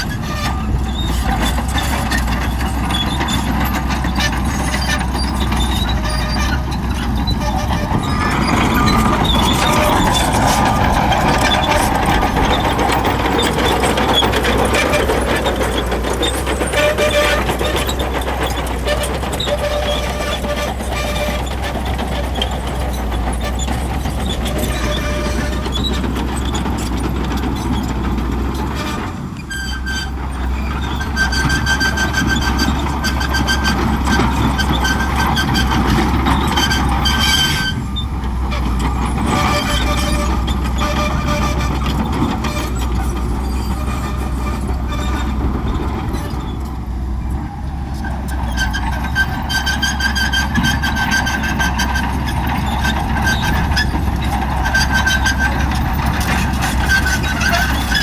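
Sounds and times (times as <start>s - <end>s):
bulldozer diesel engine running: 0.0s - 58.0s
steel tracks clanking: 0.0s - 58.0s
tracks squeaking: 0.0s - 58.0s.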